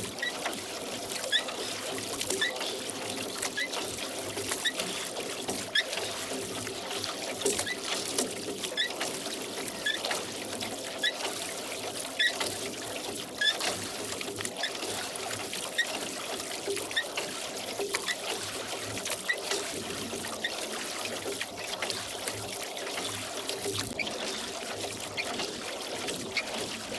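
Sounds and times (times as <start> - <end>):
oars in water: 0.0 - 26.9
water dripping off oars: 0.0 - 26.9.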